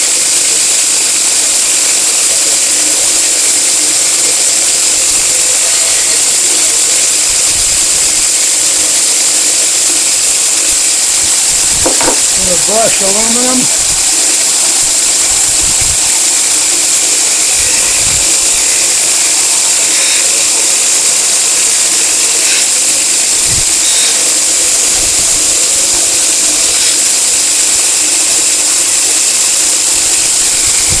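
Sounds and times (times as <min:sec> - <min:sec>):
belt grinder hissing: 0:00.0 - 0:31.0.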